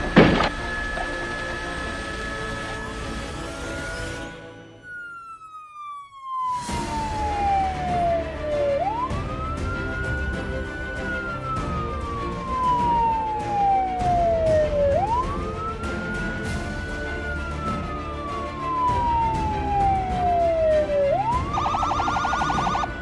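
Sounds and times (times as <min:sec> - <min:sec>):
background music: 0:00.0 - 0:05.4, 0:06.5 - 0:23.0
emergency siren wailing: 0:00.0 - 0:23.0.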